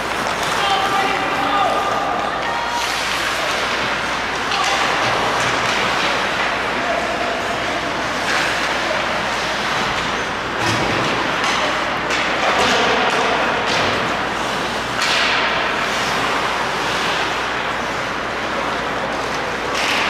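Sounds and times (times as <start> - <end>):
arena noise: 0.0 - 20.0
hockey sticks and puck knocks: 0.0 - 20.0
skate blades scraping ice: 0.0 - 20.0.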